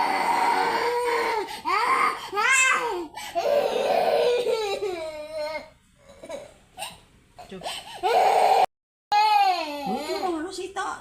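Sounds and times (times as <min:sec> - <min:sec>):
baby crying: 0:00.0 - 0:07.0, 0:07.9 - 0:10.5.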